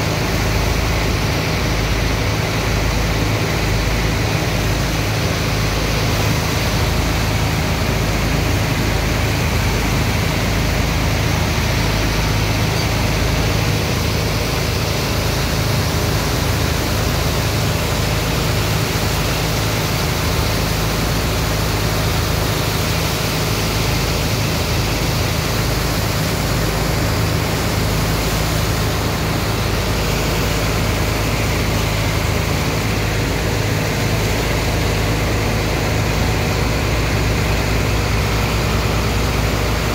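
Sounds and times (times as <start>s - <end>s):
low engine hum: 0.0s - 39.9s
water and sand slurry gushing: 0.0s - 39.9s.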